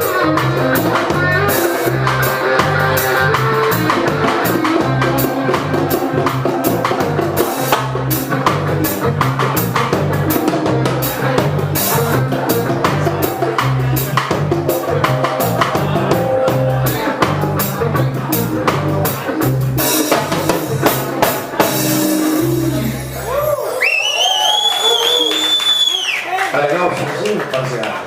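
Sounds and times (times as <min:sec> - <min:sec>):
live reggae band playing: 0:00.0 - 0:26.3.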